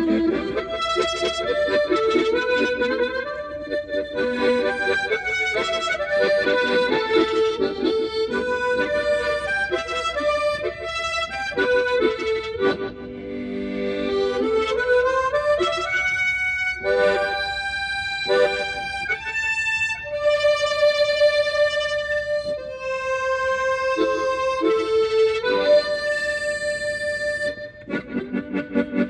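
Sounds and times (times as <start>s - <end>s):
harmonica melody: 0.0s - 29.0s.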